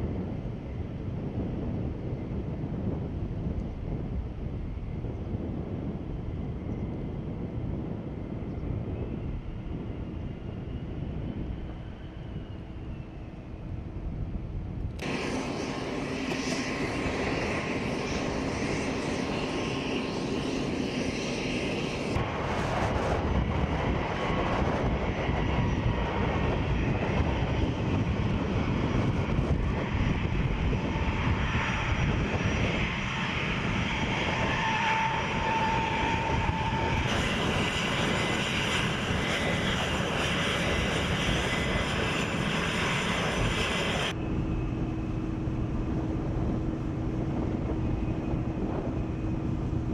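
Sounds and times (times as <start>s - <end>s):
jet engines whining: 5.7s - 49.9s.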